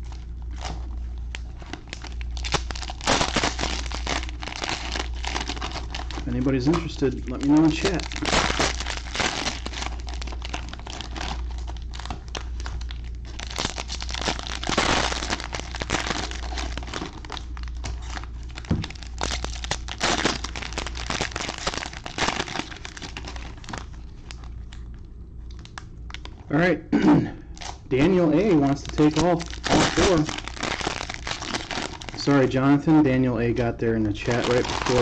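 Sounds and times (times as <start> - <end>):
cellophane crinkling: 0.0 - 26.4, 27.6 - 32.6, 34.1 - 35.0.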